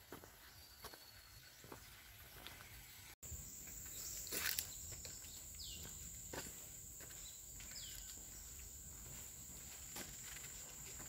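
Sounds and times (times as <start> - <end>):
faint footsteps on trail: 0.0 - 11.0.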